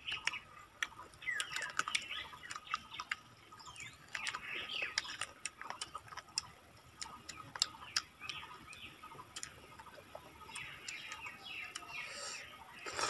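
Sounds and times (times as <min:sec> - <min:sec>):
wet chewing: 0:00.0 - 0:13.0
lip-smacking clicks: 0:00.1 - 0:03.3, 0:03.9 - 0:12.0.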